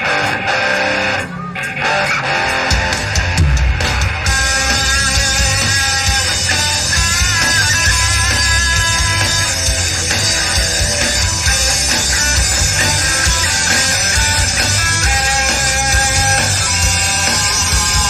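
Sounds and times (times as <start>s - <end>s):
bass and drums: 0.0s - 18.0s
electric guitar lines: 0.0s - 18.0s
rock band playing live: 0.0s - 18.0s.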